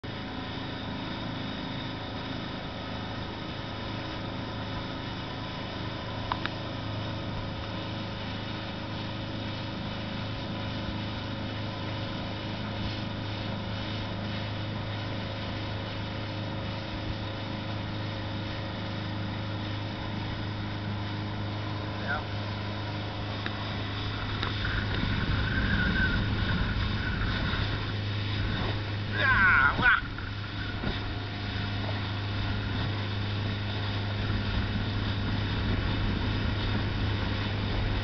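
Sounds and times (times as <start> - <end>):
boat engine droning: 0.0 - 38.0
water rushing from hull: 0.0 - 38.0.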